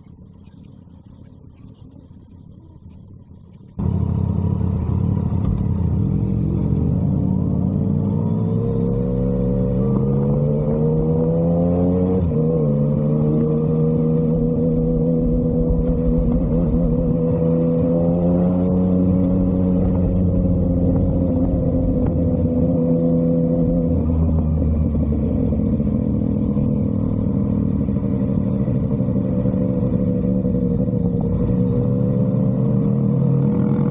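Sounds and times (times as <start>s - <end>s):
motorcycle engine and exhaust: 0.0s - 33.9s.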